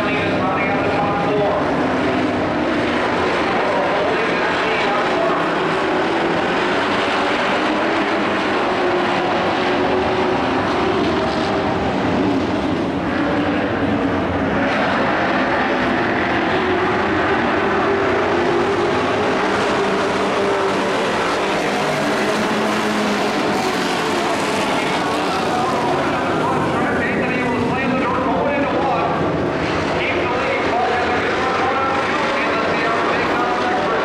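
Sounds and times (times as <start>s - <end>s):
racing truck engines droning: 0.0s - 34.0s.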